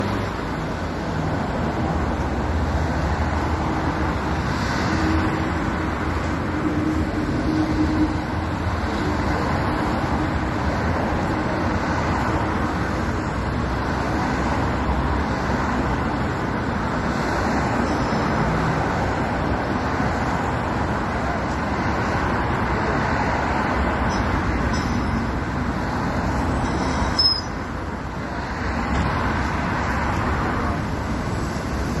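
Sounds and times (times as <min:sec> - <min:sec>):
traffic on wet road: 0:00.0 - 0:32.0.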